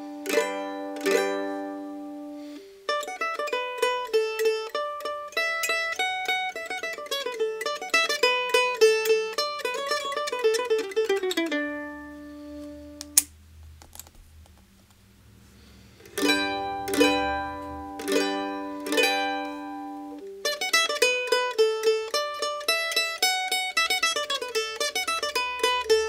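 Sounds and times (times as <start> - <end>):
mandolin playing: 0.0 - 13.7, 15.1 - 26.0.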